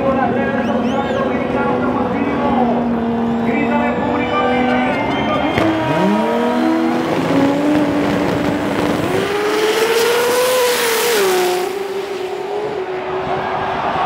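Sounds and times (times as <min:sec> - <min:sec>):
drag car engine accelerating: 0:00.0 - 0:13.5.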